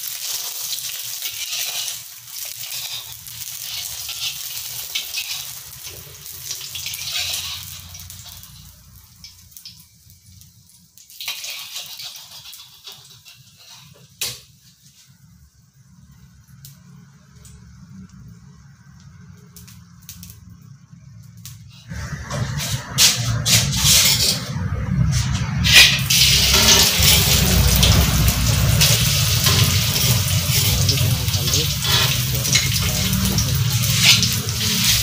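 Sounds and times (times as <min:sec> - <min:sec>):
egg sizzling in hot oil: 0:00.0 - 0:35.0.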